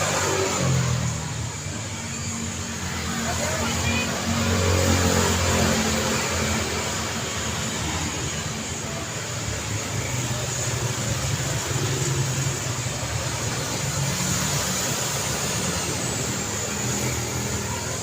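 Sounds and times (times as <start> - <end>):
street traffic hum: 0.0 - 18.0.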